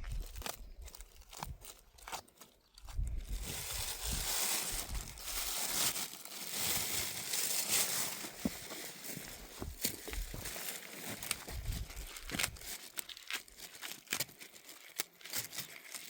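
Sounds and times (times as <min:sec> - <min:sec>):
dry plants rustling and crackling: 0:00.0 - 0:16.0.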